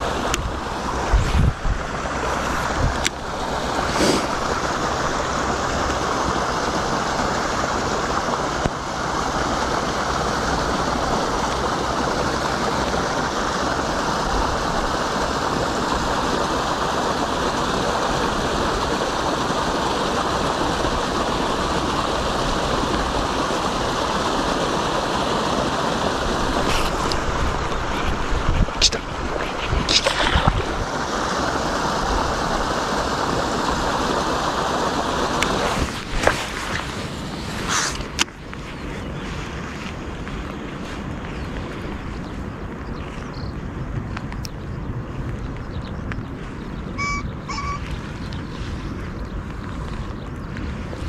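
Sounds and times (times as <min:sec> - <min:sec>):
river water rushing: 0:00.0 - 0:44.1.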